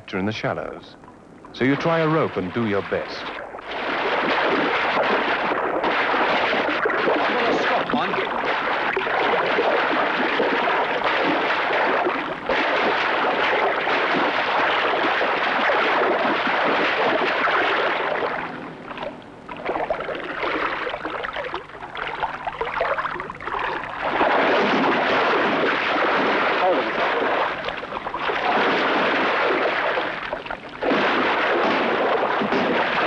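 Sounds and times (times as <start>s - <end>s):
water churning and splashing: 1.4s - 33.0s.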